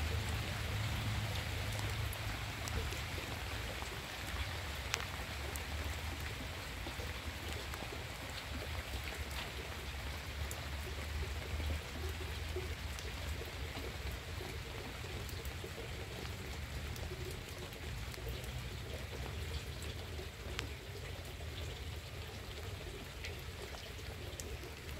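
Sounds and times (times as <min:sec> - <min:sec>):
rain on leaves and ground: 0:00.0 - 0:24.9.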